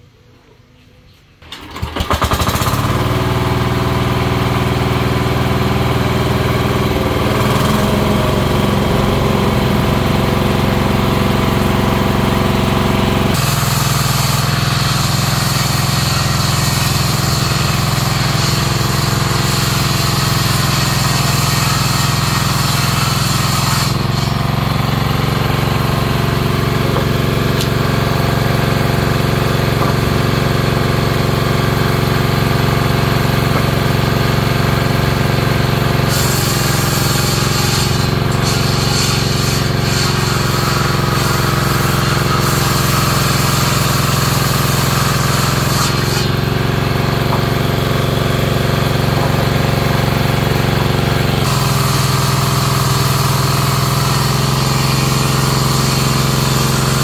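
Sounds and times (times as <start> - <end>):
small engine running: 1.4 - 57.0
saw cutting board: 6.6 - 12.4, 13.0 - 57.0.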